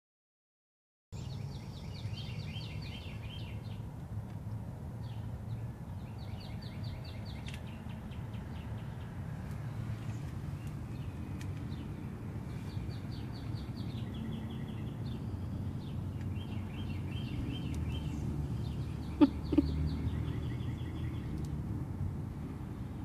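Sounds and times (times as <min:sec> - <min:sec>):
birds singing: 0:01.2 - 0:03.9, 0:05.0 - 0:21.6.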